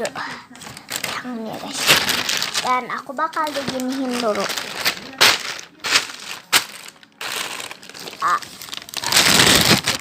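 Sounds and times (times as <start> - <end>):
plastic crinkling and rustling: 0.0 - 10.0.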